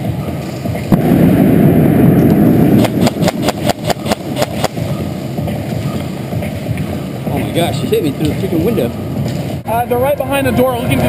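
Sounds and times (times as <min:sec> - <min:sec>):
loud low rushing rumble: 0:00.0 - 0:11.0.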